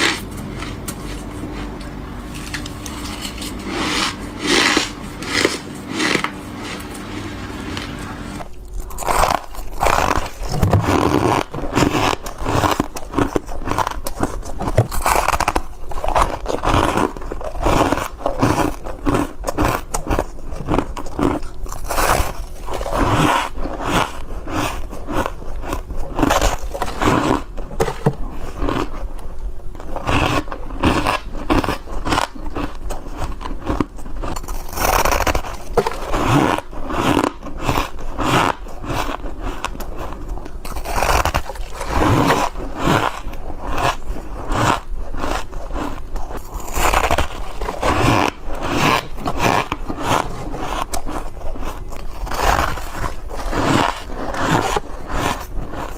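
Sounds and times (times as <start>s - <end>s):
frost being bitten and chewed: 2.4s - 7.1s, 8.4s - 55.9s.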